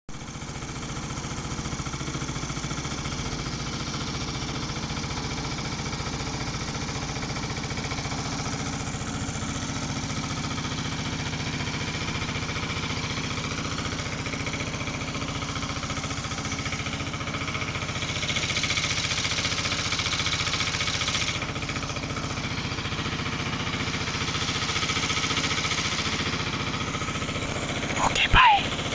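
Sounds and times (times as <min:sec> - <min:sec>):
truck engine running: 0:00.2 - 0:28.9.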